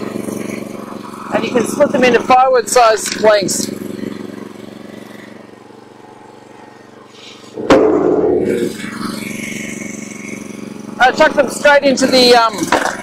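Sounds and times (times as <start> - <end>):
log splitter engine running: 0.0 - 13.0.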